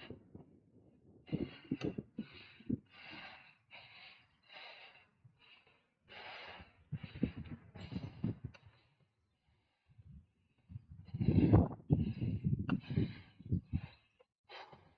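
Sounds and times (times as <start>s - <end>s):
person breathing hard: 1.2s - 14.9s.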